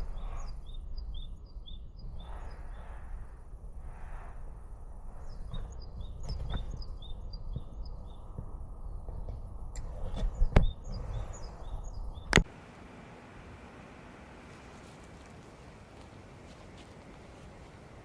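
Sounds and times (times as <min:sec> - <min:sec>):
low rumbling background: 0:00.0 - 0:18.0
small birds chirping: 0:00.0 - 0:18.0.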